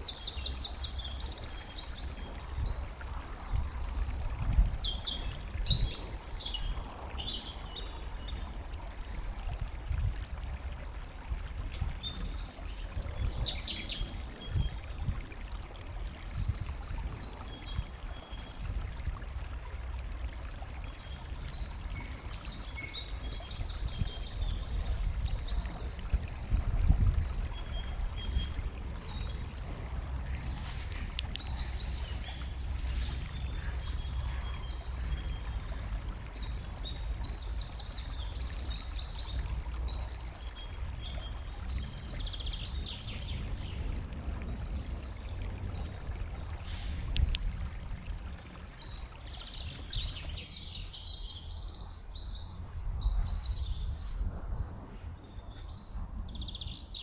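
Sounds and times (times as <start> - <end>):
songbirds chirping: 0.0 - 9.3, 11.3 - 57.0
running water: 0.0 - 57.0.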